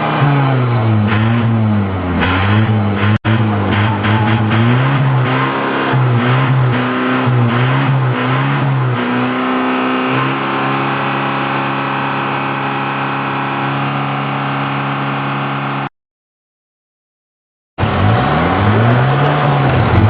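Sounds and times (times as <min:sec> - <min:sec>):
vehicle engine running: 0:00.0 - 0:15.9, 0:17.8 - 0:20.0.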